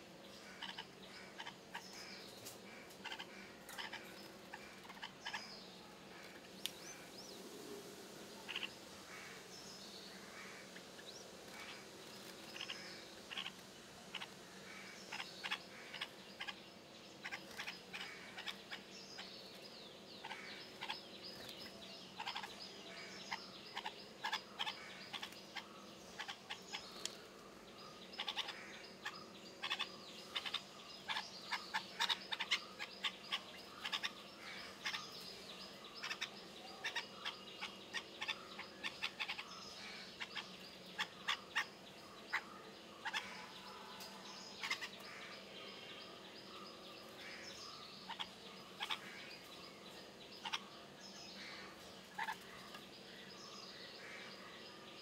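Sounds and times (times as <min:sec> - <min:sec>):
birds chirping: 0:00.0 - 0:55.0
faint steady hum: 0:00.0 - 0:55.0.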